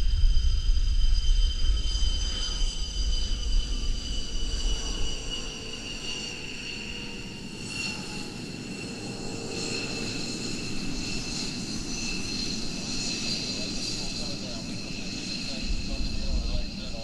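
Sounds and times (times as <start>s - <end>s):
jet engine turbine whine: 0.0s - 17.0s
low jet rumble: 0.0s - 17.0s.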